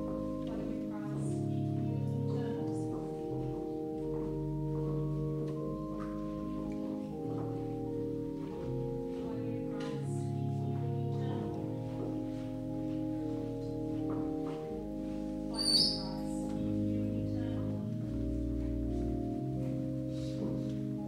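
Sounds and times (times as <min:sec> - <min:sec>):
slow instrumental sustained chords: 0:00.0 - 0:21.0.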